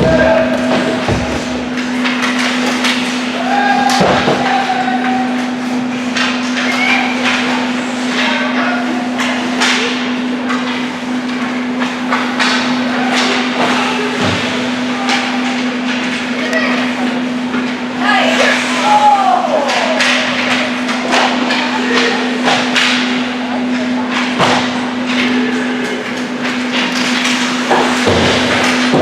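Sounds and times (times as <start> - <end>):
hockey sticks and puck clacking: 0.0 - 8.6, 9.2 - 29.0.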